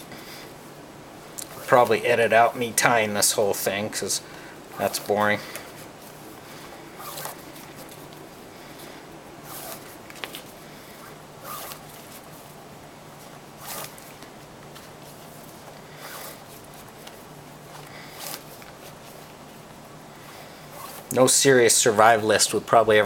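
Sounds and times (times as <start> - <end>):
cord rasping through knots: 1.4 - 21.2.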